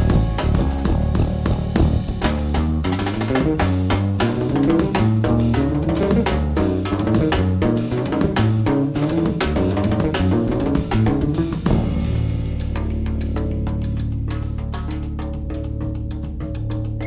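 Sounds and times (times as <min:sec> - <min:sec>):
bass and guitar: 0:00.0 - 0:17.0
drum kit playing: 0:00.0 - 0:17.0.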